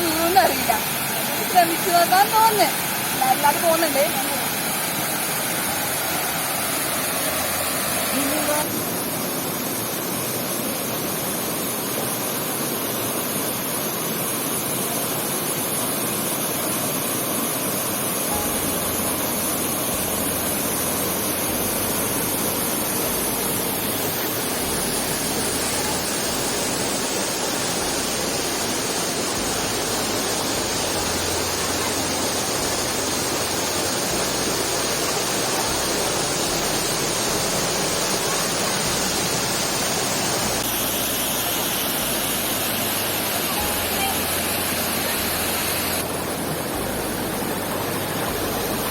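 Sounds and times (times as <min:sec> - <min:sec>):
waterfall rushing and splashing: 0:00.0 - 0:48.9.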